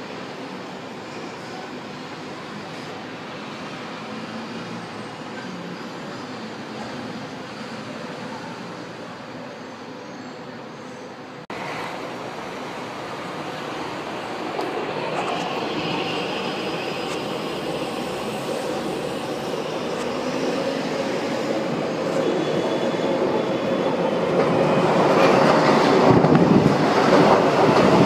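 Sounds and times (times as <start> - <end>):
high train whine: 0.0 - 28.0
metro train running noise: 0.0 - 28.0.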